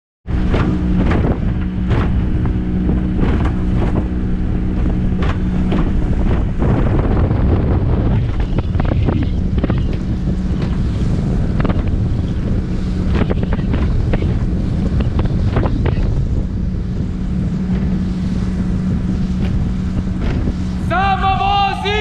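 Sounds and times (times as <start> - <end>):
hull knocking and splashing: 0.2 - 20.9
boat engine hum: 0.2 - 22.0
wind buffeting microphone: 0.2 - 22.0.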